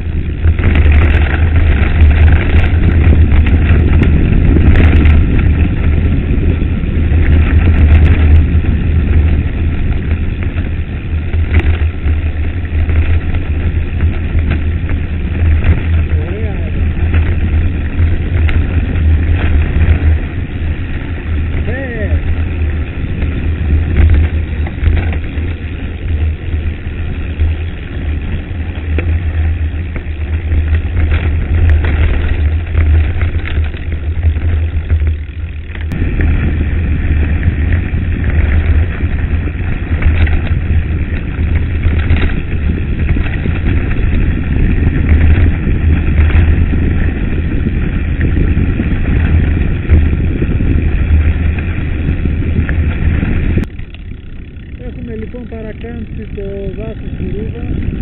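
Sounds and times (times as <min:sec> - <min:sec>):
bike rattling: 0:00.0 - 0:58.0
wind buffeting microphone: 0:00.0 - 0:58.0.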